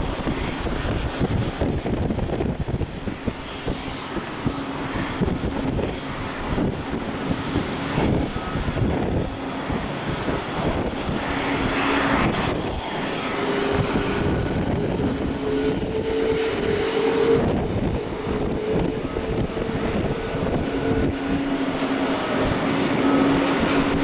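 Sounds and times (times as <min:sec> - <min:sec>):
higher engine tone: 0:00.0 - 0:24.0
jet engines rushing and humming: 0:00.0 - 0:24.0.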